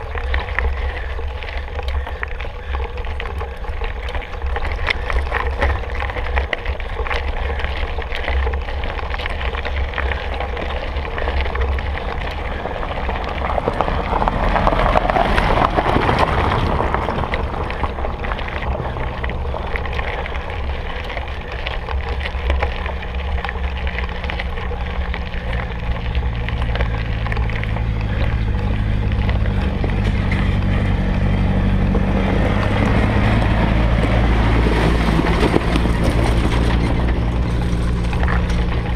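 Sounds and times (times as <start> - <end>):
low multi-tone hum: 0.0 - 38.9
mountain bike rattling on trail: 0.0 - 38.9
wind buffeting microphone: 0.0 - 38.9.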